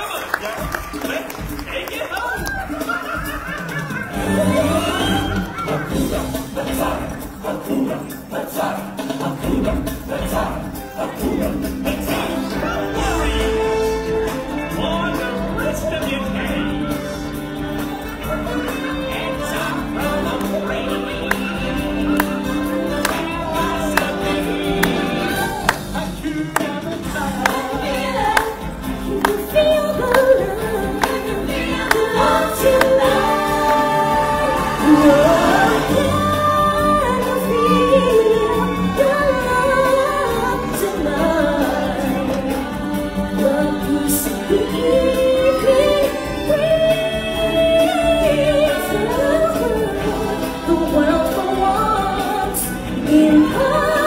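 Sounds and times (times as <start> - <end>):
band playing: 0.0 - 54.0
choir singing: 4.0 - 54.0
lead singer singing: 4.4 - 54.0.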